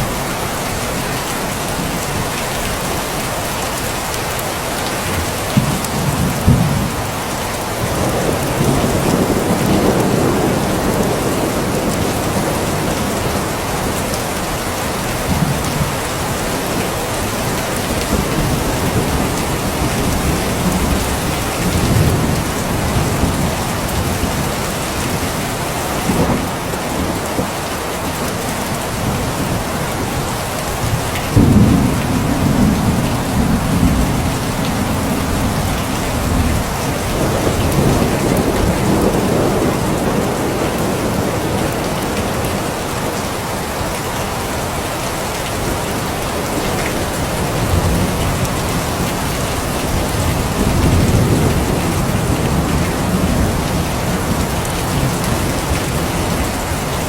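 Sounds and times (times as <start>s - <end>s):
steady rain falling: 0.0s - 57.0s
thunder rumbling: 5.2s - 27.6s, 28.9s - 43.1s, 45.6s - 57.0s.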